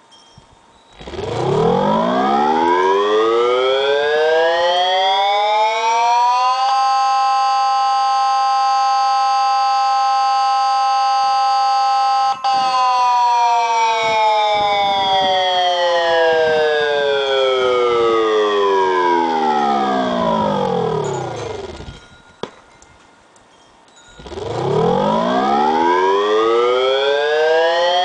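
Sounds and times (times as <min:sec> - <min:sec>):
siren tone rising and falling: 0:01.0 - 0:22.0, 0:24.2 - 0:28.0.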